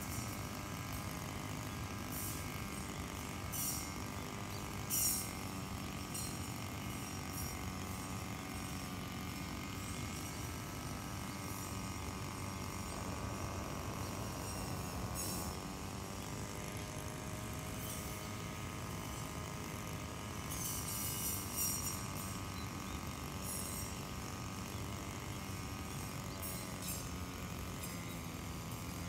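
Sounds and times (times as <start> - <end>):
brush cutter engine running: 0.0 - 29.0.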